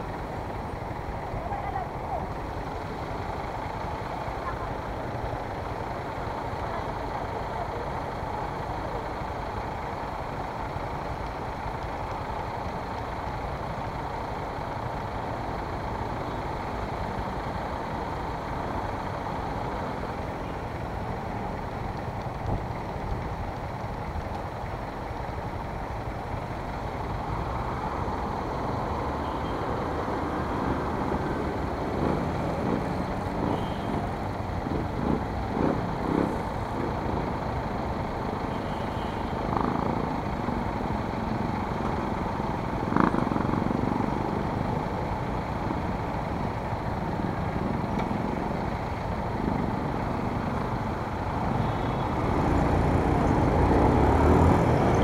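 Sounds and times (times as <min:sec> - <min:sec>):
motorcycle engine idling: 0:00.0 - 0:54.0
passing traffic rumble: 0:00.0 - 0:55.0.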